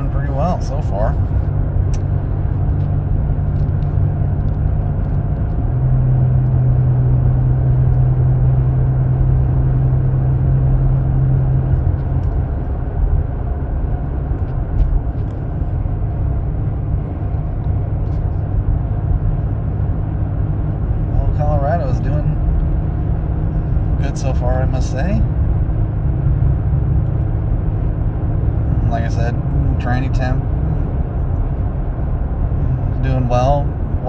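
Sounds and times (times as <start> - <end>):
road noise inside cab: 0.0 - 34.0
truck engine hum: 0.0 - 34.0.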